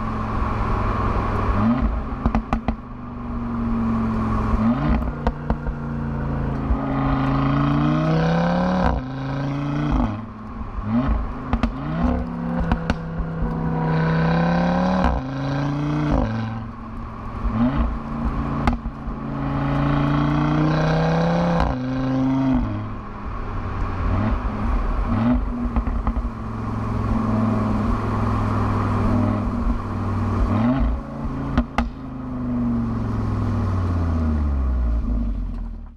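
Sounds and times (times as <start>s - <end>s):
car engine accelerating hard: 0.0s - 35.8s.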